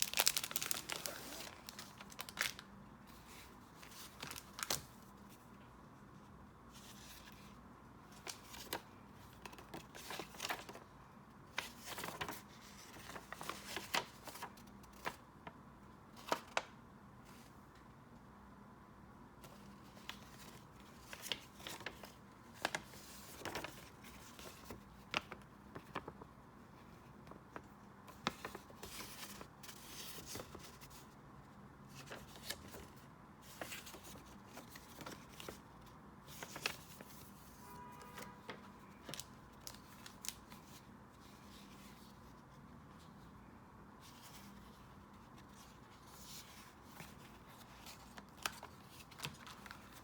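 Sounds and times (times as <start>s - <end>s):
paper rustling: 0.0s - 5.5s, 6.7s - 10.8s, 11.5s - 15.2s, 19.4s - 31.2s, 31.9s - 42.5s, 44.0s - 50.0s
faint steady hum: 0.0s - 50.0s.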